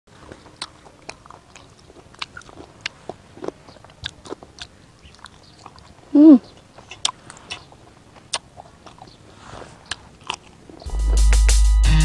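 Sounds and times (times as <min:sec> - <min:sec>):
food clicking and crackling: 0:00.1 - 0:10.9.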